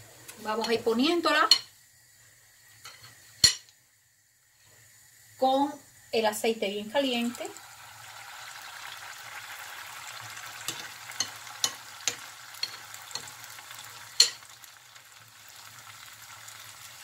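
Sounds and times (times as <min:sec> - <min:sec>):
batter sizzling in oil: 0:00.0 - 0:17.0.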